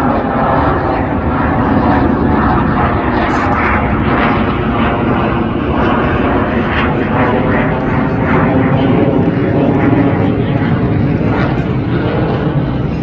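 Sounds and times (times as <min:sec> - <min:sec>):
jet roaring overhead: 0:00.0 - 0:13.0.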